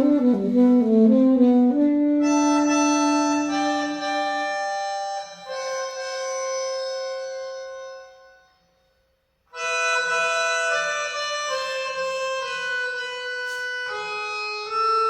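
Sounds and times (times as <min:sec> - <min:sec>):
melodica held notes: 0:00.0 - 0:15.0.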